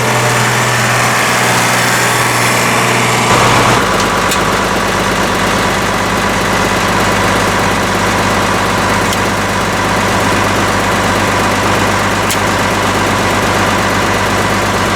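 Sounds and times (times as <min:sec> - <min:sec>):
tractor engine idling: 0:00.0 - 0:14.9.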